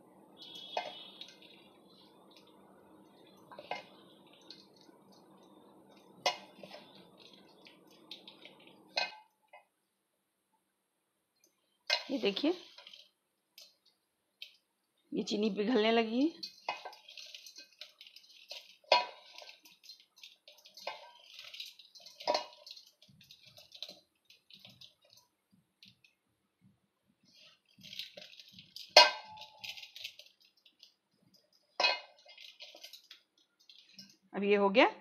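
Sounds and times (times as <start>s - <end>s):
steel bowl clinking: 0.4s - 9.7s, 11.8s - 14.6s, 16.1s - 26.1s, 27.3s - 34.3s.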